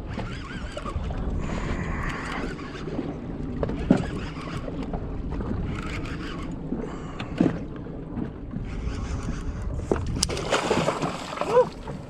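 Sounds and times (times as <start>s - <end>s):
low rumble aboard boat: 0.0s - 12.0s.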